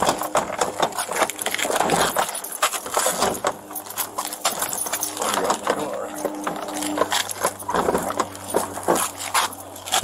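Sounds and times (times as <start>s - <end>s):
equipment clicks and knocks: 0.0s - 9.2s.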